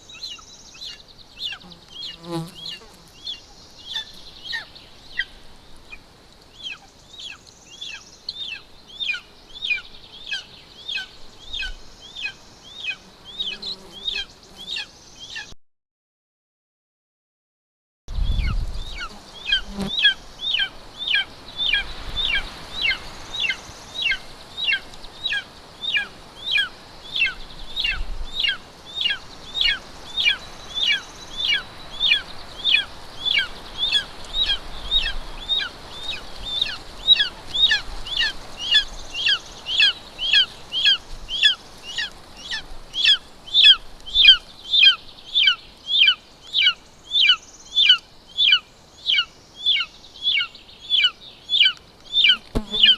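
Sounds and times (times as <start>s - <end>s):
eagle chick cheeping: 6.6s - 15.6s, 18.2s - 52.9s.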